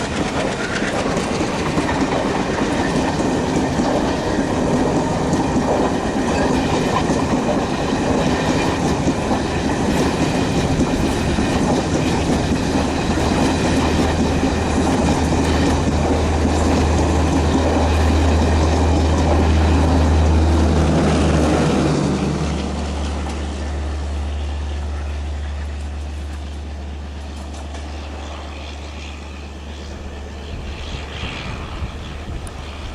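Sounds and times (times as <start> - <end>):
wheels clattering over rail joints: 0.0 - 28.7
diesel locomotive engine drone: 0.0 - 32.9.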